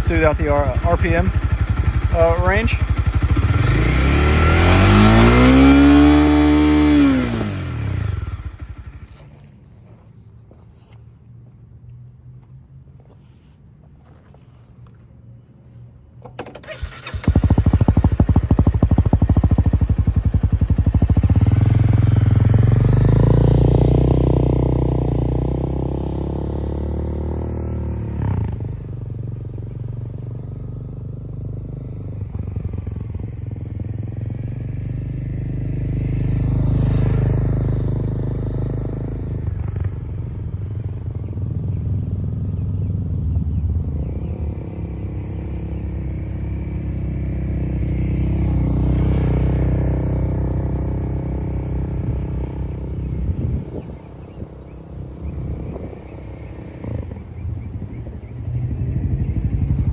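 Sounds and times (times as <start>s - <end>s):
motorcycle engine revving: 0.0s - 9.6s, 16.2s - 59.9s.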